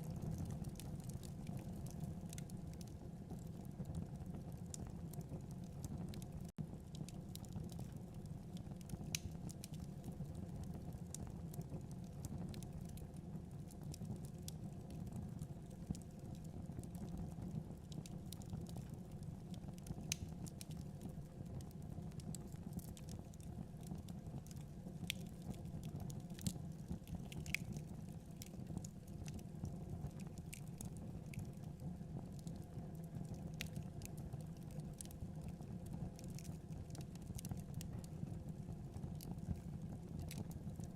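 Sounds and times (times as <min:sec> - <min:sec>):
fire crackles and pops: 0:00.0 - 0:40.9
wood fire burning: 0:00.0 - 0:40.9.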